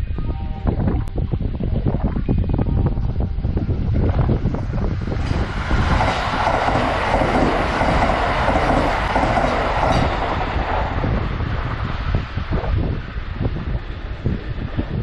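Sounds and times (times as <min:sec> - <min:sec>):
electric train rushing past: 0:01.3 - 0:15.0.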